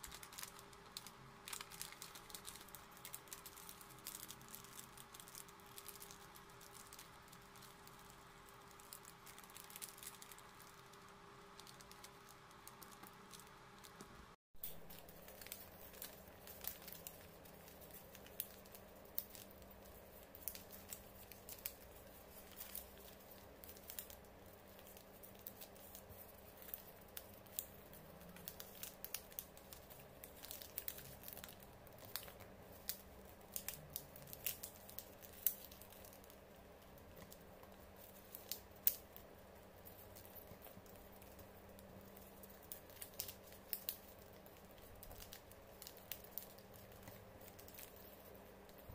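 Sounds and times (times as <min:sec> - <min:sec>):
faint steady hum: 0:00.0 - 0:48.9
paper crinkling and folding: 0:00.0 - 0:48.9.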